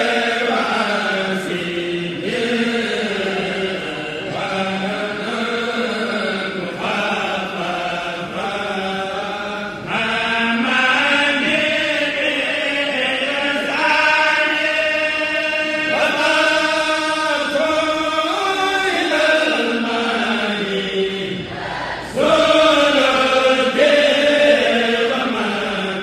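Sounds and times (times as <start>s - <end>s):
group of voices chanting: 0.0s - 26.0s.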